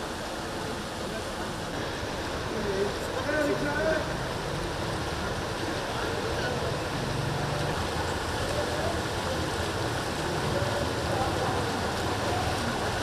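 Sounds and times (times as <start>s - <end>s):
rain on flooded street: 0.0s - 13.0s.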